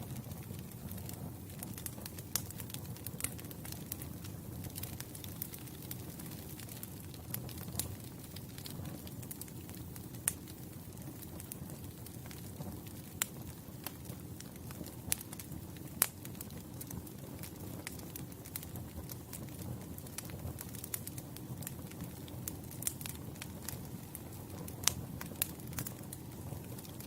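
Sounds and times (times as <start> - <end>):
campfire crackling: 0.0 - 27.0
sharp pops of fire: 0.0 - 27.0.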